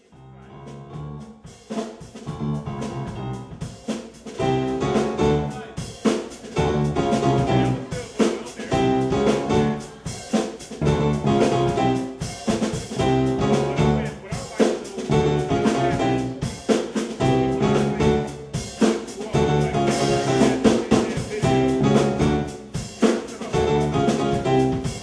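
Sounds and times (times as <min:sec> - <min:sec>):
electric bass: 0:00.0 - 0:01.5, 0:02.3 - 0:03.8, 0:04.4 - 0:06.0, 0:06.6 - 0:08.0, 0:08.7 - 0:10.1, 0:10.7 - 0:14.2, 0:15.1 - 0:25.0
drum kit: 0:00.0 - 0:25.0
keyboard: 0:02.2 - 0:25.0.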